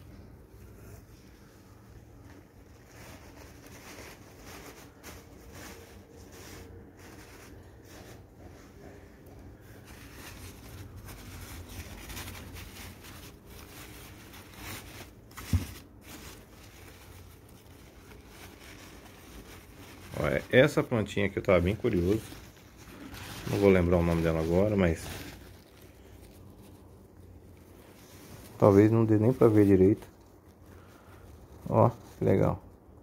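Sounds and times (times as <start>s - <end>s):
crumpled paper rustling: 0.0s - 33.0s.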